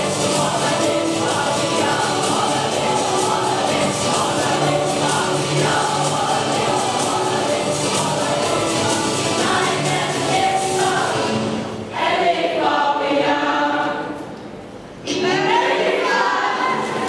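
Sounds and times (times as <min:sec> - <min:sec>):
choir singing: 0:00.0 - 0:14.3, 0:15.1 - 0:17.0.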